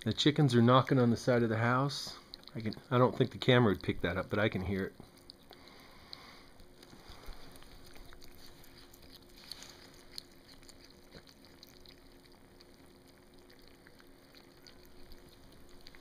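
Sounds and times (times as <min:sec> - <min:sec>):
kittens chewing: 0:00.0 - 0:16.0.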